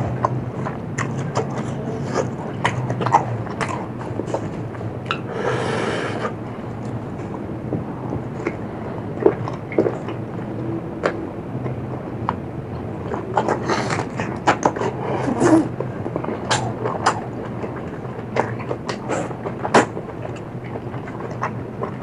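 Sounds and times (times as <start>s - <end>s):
chewing with crunches: 0.0s - 22.0s.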